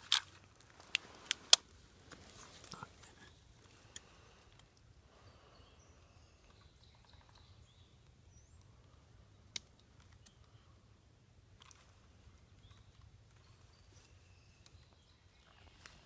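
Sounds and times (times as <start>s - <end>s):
faint distant bird chirps: 2.3s - 11.0s, 11.8s - 16.0s.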